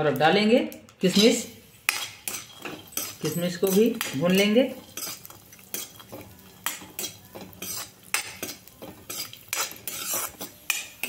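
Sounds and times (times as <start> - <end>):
metal ladle scraping metal pan: 1.1 - 11.0.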